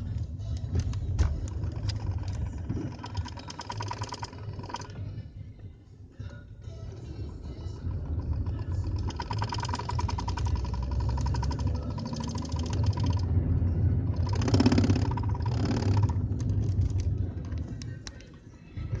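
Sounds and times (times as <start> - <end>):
diesel engine accelerating: 0.0 - 5.2, 6.7 - 18.1
fast rattling noise: 0.0 - 5.2, 6.7 - 18.1.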